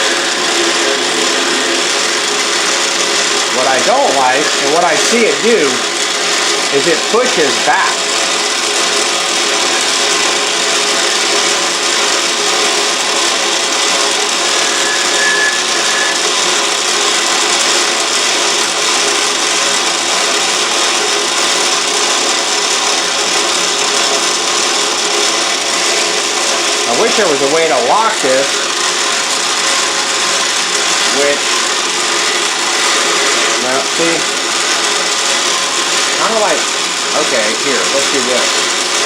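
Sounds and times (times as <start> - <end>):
cutting tool scraping metal: 0.0 - 39.0
metal lathe running: 0.0 - 39.0.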